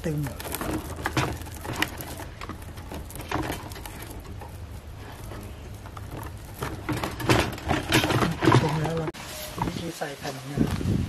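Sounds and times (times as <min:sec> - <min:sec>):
string rustling and clicking: 0:00.0 - 0:09.8.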